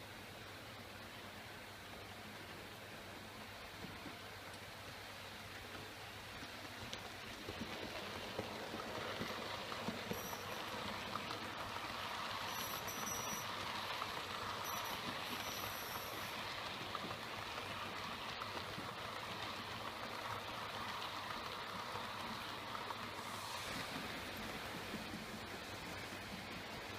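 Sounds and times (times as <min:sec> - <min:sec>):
model train whirring on rails: 0:00.0 - 0:26.9.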